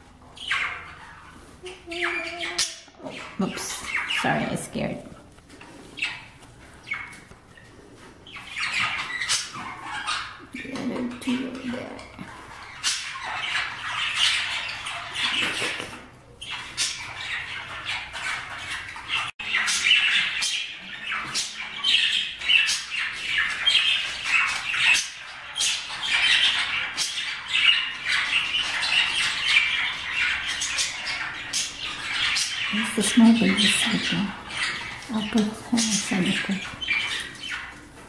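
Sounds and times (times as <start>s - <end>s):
budgerigars chattering: 0.2s - 5.0s, 5.7s - 38.0s.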